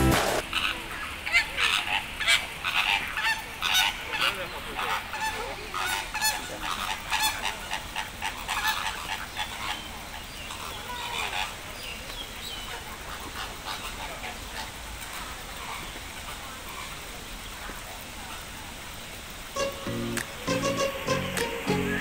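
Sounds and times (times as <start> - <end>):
flamingos honking: 0.0 - 22.0.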